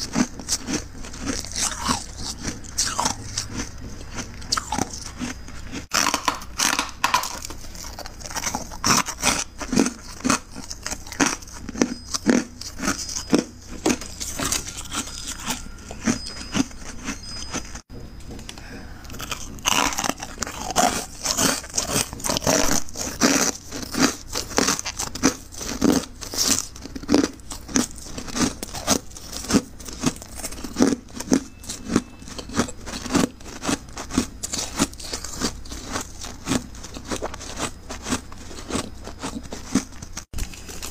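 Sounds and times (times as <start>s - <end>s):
freezer frost crunching: 0.0s - 17.8s, 18.5s - 40.9s.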